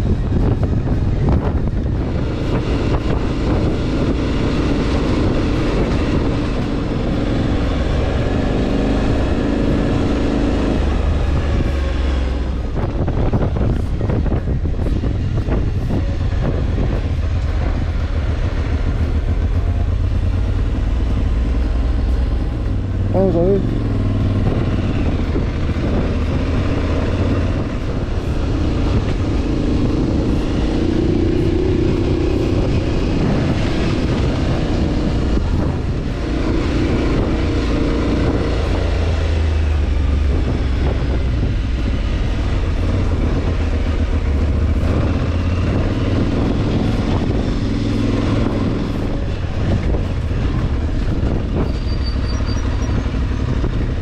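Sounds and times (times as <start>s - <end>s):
motorcycle engine revving: 0.0s - 54.0s
wind and tyre noise: 0.0s - 54.0s.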